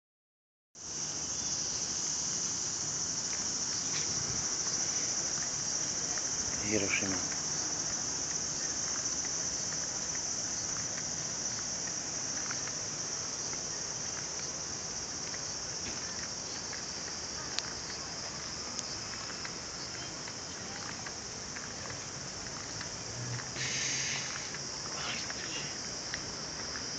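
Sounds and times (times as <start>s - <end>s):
insects droning: 0.8s - 26.9s.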